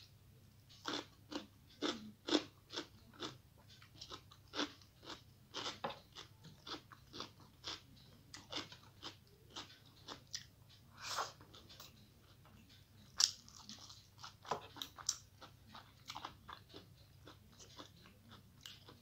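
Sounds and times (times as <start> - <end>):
chewing crunchy food: 0.7 - 19.0.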